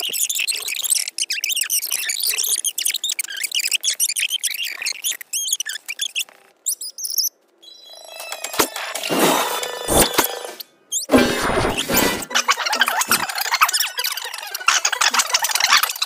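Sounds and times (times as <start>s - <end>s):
high-pitched squeaky chatter: 0.0s - 7.0s, 9.9s - 16.0s.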